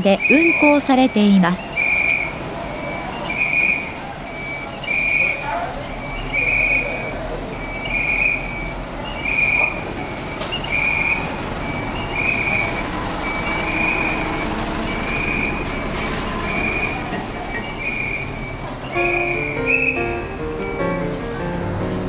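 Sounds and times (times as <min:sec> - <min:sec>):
bus idling: 0:00.0 - 0:22.0
street noise: 0:00.0 - 0:22.0.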